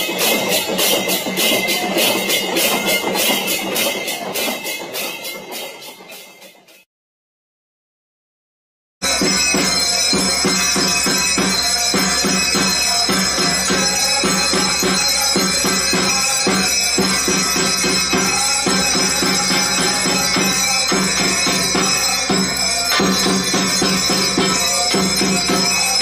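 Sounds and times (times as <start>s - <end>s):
fast drum beat: 0.0s - 5.6s, 9.0s - 26.0s.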